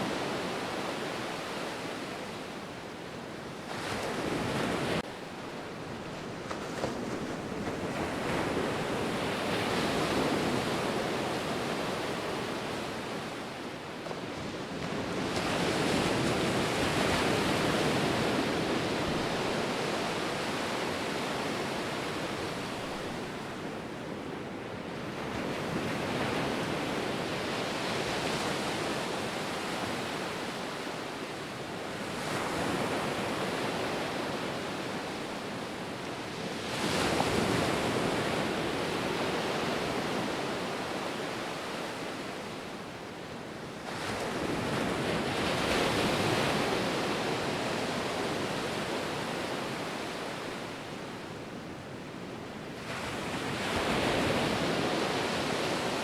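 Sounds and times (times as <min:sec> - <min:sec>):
ocean surf washing ashore: 0:00.0 - 0:56.0.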